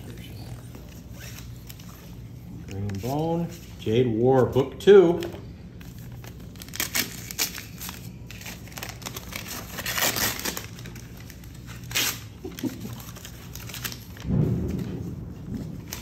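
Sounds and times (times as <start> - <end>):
paper crinkling and tearing: 0.0 - 15.0, 15.6 - 16.0.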